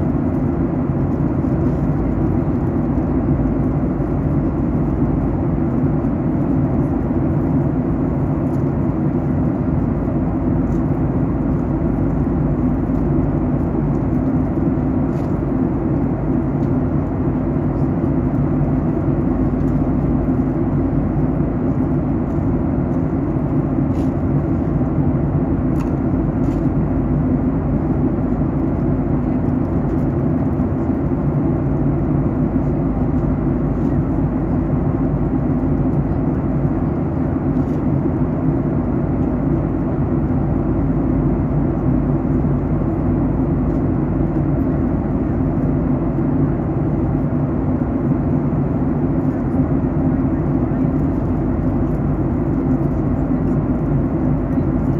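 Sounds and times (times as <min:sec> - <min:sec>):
airplane cabin drone: 0:00.0 - 0:54.9.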